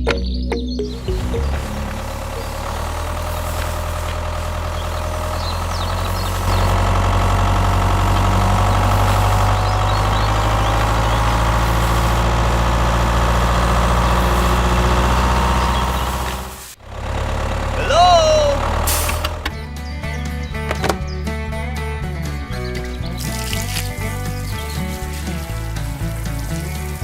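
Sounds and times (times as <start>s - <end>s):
engine idling with deep hum: 0.0s - 20.6s, 22.6s - 27.0s.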